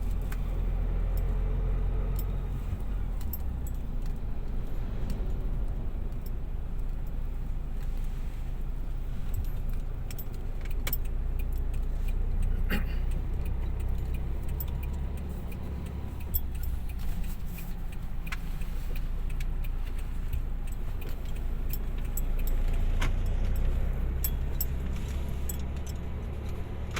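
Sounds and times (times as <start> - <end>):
steady low rumble: 0.0 - 26.3.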